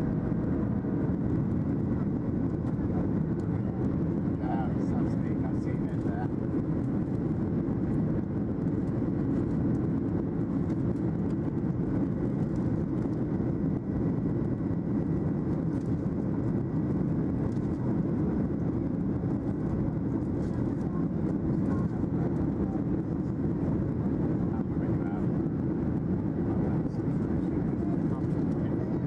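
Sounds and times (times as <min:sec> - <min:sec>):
airplane cabin engine rush: 0:00.0 - 0:29.0.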